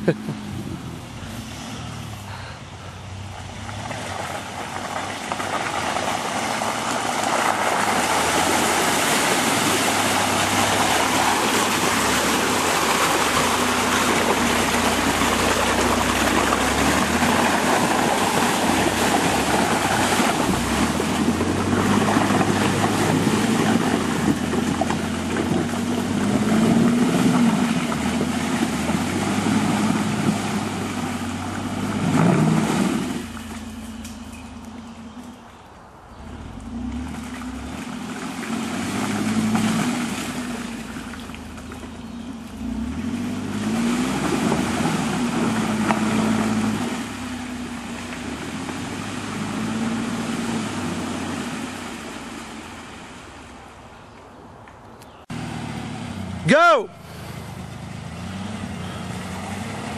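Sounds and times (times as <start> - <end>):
truck engine revving: 0.0 - 35.5, 36.2 - 53.2, 55.3 - 59.9
mud and water splashing: 0.0 - 54.2, 55.3 - 59.9.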